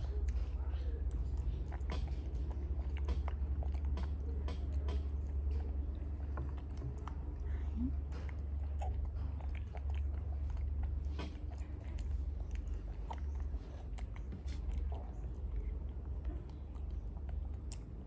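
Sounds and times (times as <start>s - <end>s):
low hum: 0.0s - 18.0s
monkey chewing fruit: 0.0s - 18.0s.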